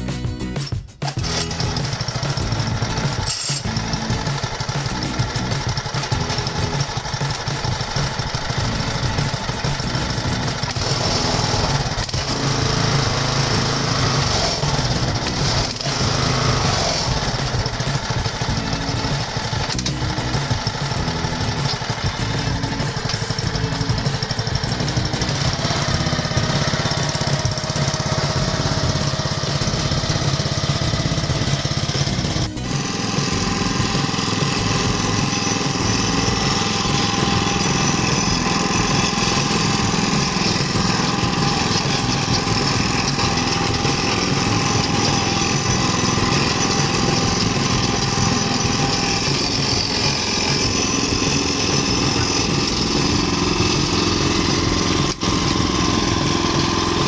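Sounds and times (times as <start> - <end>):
tiller engine running: 0.0 - 57.0.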